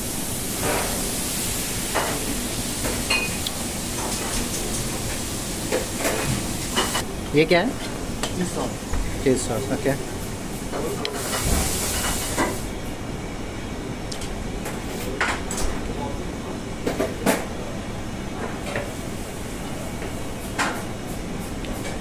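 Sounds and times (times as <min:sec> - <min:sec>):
ventilation rumble: 0:00.0 - 0:22.0.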